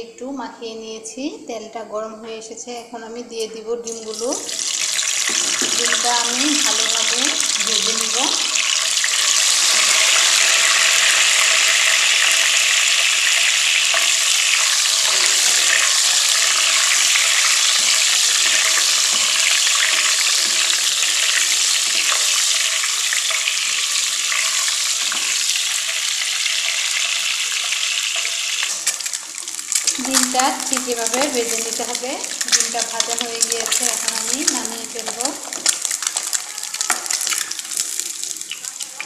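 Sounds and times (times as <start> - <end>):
eggs sizzling in hot oil: 3.8 - 39.0.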